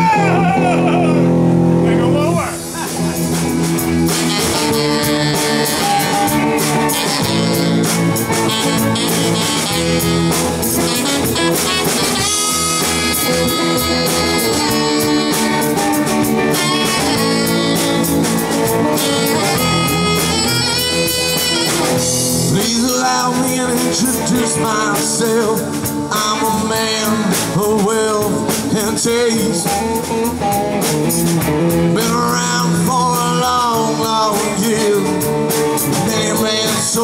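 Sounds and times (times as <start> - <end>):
bass guitar: 0.0 - 37.0
drum kit: 0.0 - 37.0
electric guitars: 0.0 - 37.0.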